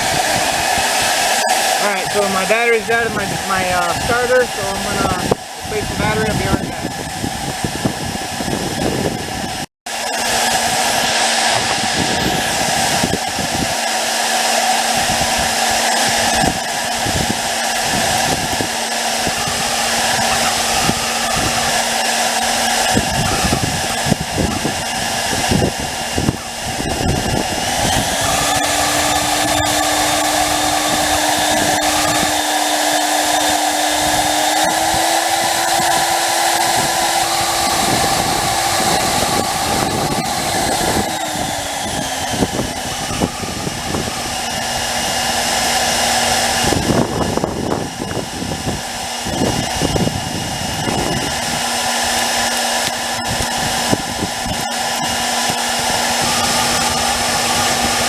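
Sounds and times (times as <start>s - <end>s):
electric blower whining: 0.0s - 58.0s.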